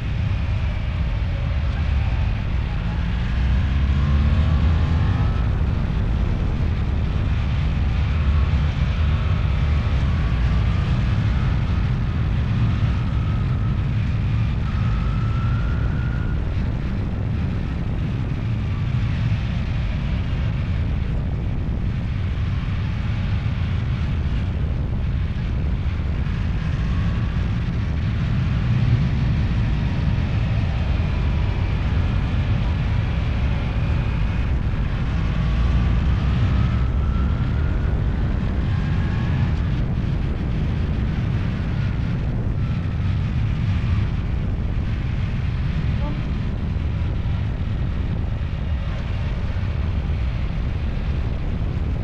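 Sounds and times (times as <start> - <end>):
vehicle engine rumbling: 0.0 - 52.0
wind noise on microphone: 0.0 - 52.0.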